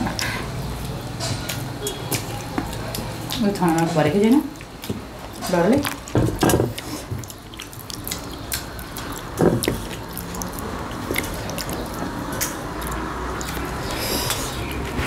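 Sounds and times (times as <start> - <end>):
chewing and wet mouth noises: 0.0 - 15.0
fingers mixing food on metal plates: 0.0 - 15.0.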